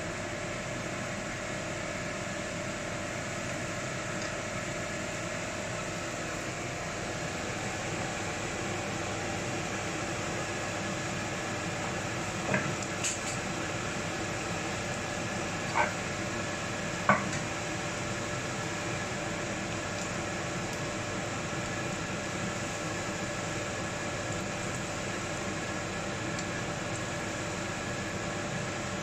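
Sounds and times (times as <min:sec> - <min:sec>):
food sizzling in hot oil: 0:01.1 - 0:29.0.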